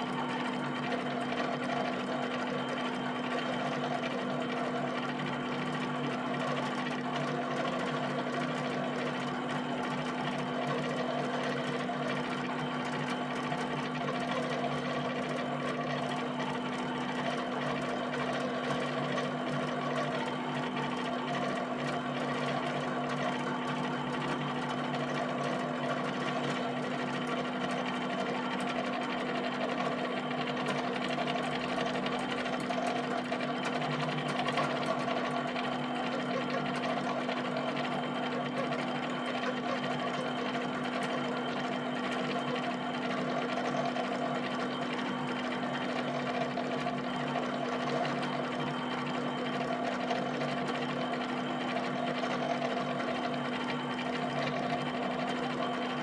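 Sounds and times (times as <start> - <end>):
plotter motor hum: 0.0 - 56.0.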